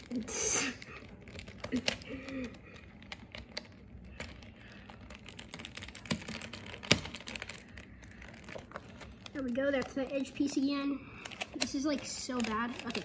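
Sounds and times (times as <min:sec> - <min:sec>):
plastic puzzle cube clicking: 0:00.9 - 0:10.0, 0:11.2 - 0:13.0.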